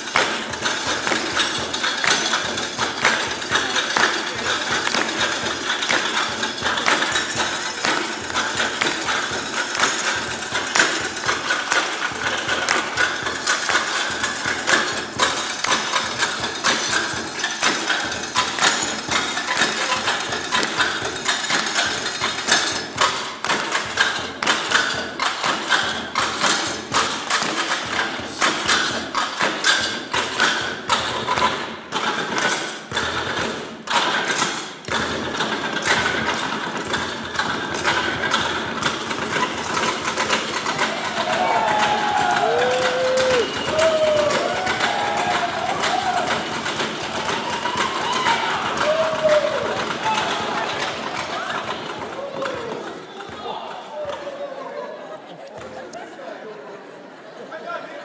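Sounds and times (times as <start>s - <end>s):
stepladders played as drums: 0.0s - 54.5s.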